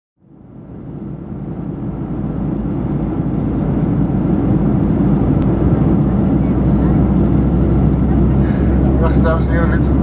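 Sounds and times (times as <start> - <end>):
airplane cabin engine rumble: 0.2 - 10.0.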